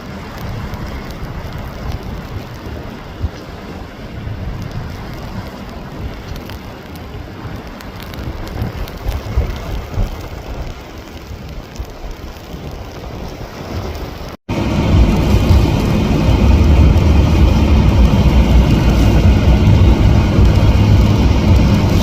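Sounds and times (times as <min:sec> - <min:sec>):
raindrops ticking: 0:00.0 - 0:22.0
steady rain: 0:00.0 - 0:22.0
wind gusts buffeting microphone: 0:00.0 - 0:22.0.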